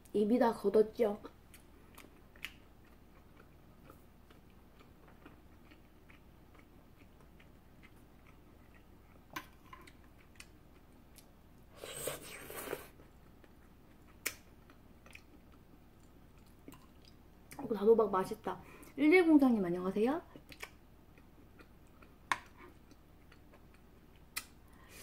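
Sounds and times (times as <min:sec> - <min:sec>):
person chewing food: 0:01.4 - 0:17.6, 0:20.3 - 0:25.0.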